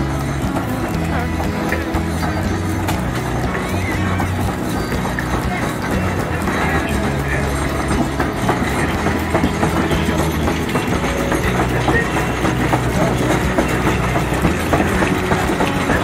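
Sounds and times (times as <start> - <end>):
steam traction engine driving past: 0.0 - 16.0.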